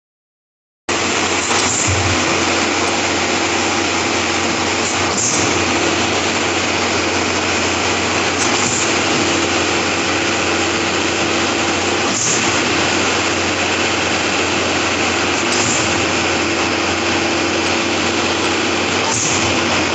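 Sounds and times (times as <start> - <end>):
diesel engine running: 0.9 - 19.9.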